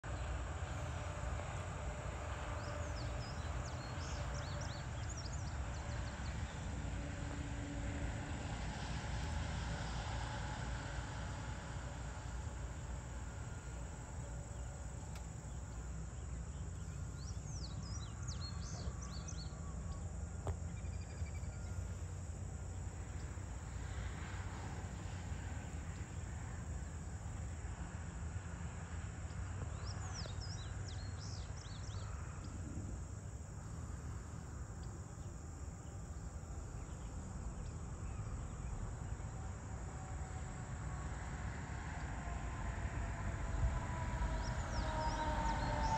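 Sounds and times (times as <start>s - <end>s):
insects chorus: 0.0s - 45.9s.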